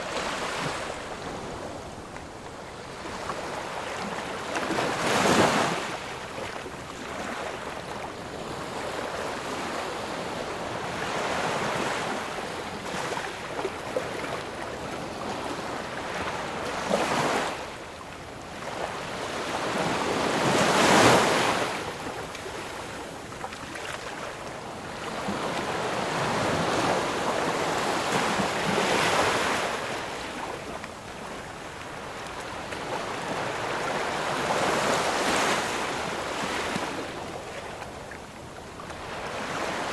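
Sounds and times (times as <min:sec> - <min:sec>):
ocean waves breaking: 0:00.0 - 0:17.8, 0:18.5 - 0:39.9.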